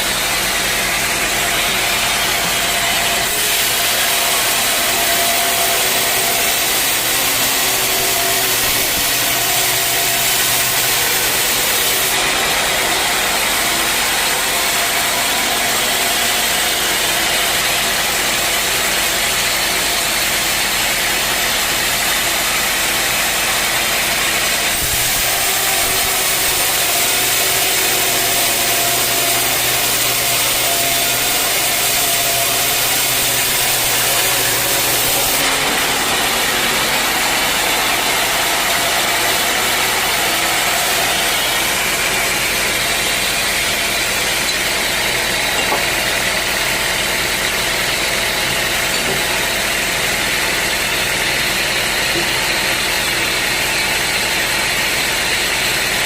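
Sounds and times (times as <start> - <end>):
mill motor running: 0.0 - 56.0
saw blade cutting log: 0.0 - 56.0.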